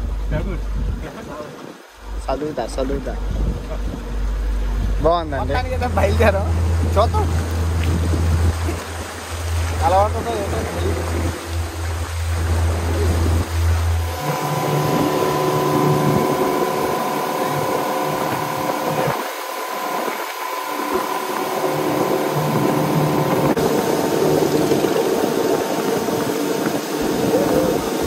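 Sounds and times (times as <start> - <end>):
outboard motor drone: 0.0 - 28.0
rushing water: 0.0 - 28.0
wind: 0.0 - 28.0.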